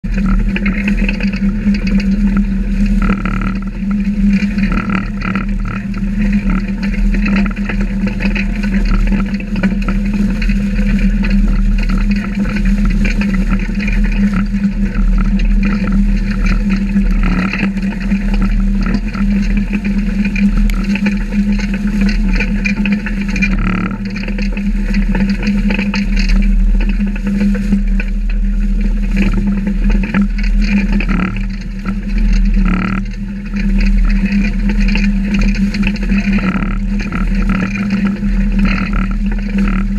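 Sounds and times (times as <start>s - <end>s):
machine clatter: 0.0s - 39.9s
machine drone: 0.0s - 39.9s.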